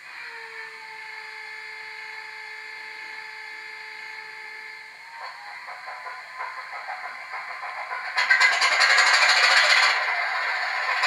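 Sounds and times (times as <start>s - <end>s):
high-pitched diesel whine from speaker: 0.0s - 11.0s.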